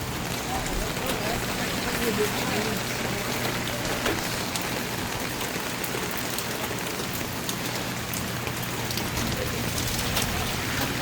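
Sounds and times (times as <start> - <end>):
heavy rain: 0.0 - 11.0
raindrops pattering on surfaces: 0.0 - 11.0.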